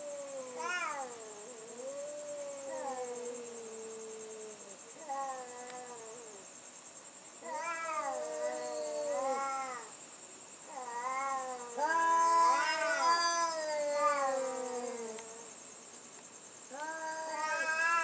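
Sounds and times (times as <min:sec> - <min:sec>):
cats yowling: 0:00.0 - 0:06.4, 0:07.4 - 0:09.9, 0:10.7 - 0:15.5, 0:16.7 - 0:18.0.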